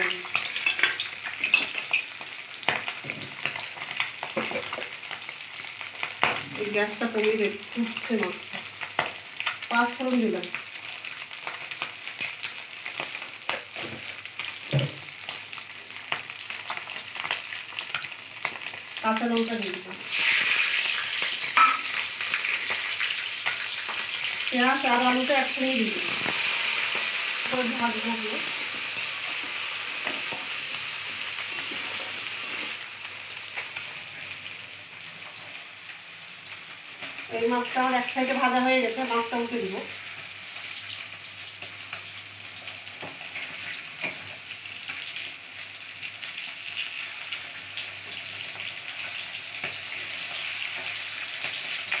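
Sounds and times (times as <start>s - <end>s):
seeds sizzling in hot oil: 0.0s - 52.0s.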